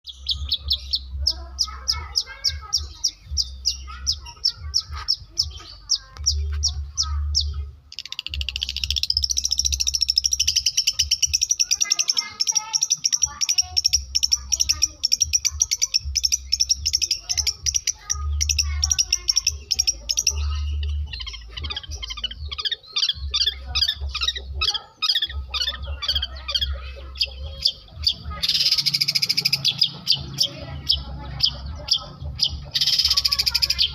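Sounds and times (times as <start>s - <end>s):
bird singing chirps and trills: 0.0s - 33.9s.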